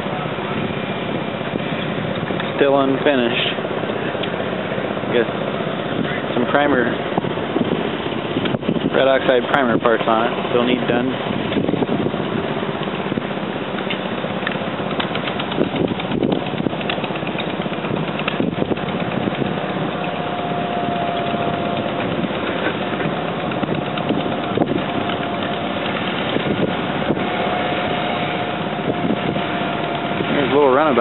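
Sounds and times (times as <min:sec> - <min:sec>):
engine running: 0:00.0 - 0:31.0
faint steady whine: 0:00.0 - 0:31.0.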